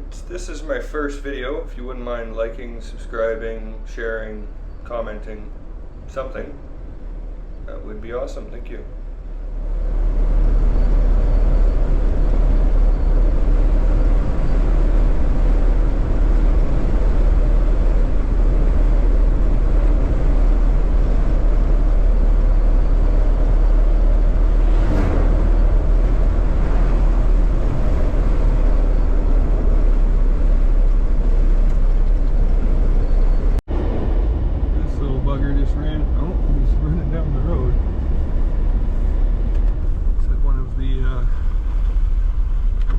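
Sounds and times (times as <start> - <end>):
vehicle engine and road rumble: 0.0 - 42.9.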